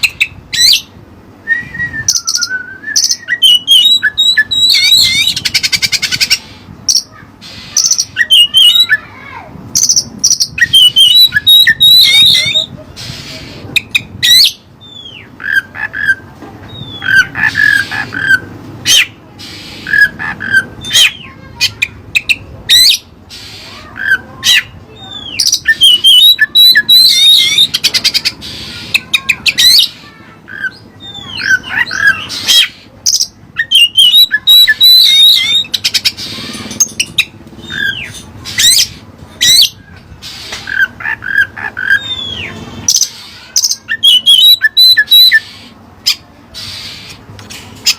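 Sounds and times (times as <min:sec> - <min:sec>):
magpie-robin singing: 0:00.0 - 0:09.1, 0:09.7 - 0:47.2.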